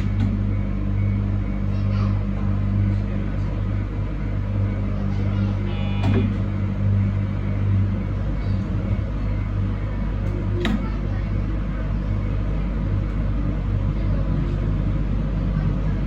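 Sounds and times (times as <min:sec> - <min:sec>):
train running hum: 0:00.0 - 0:16.0.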